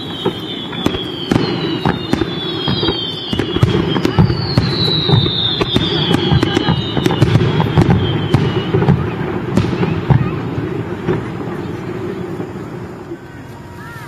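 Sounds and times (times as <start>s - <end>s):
descending firework whistles: 0.0s - 14.0s
fireworks bangs and crackles: 0.0s - 14.0s.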